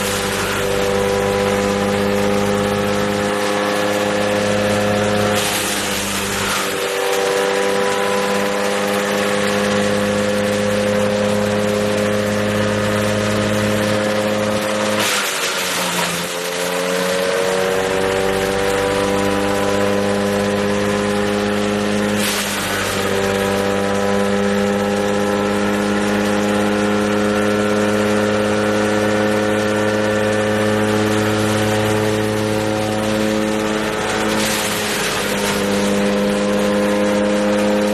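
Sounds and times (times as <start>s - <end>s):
wood chipper engine running: 0.0s - 37.9s.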